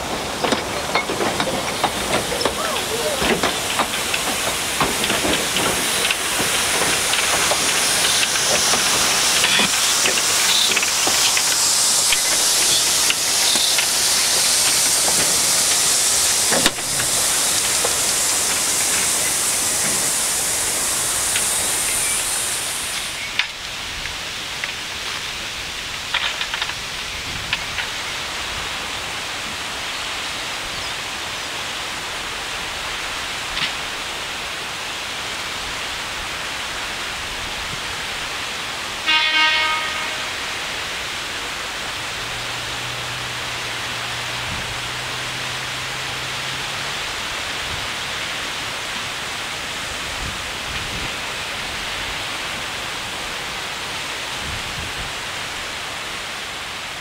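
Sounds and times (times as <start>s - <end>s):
steam hissing: 0.0s - 57.0s
train running noise: 0.0s - 57.0s
train wheels clicking over rail joints: 0.0s - 57.0s.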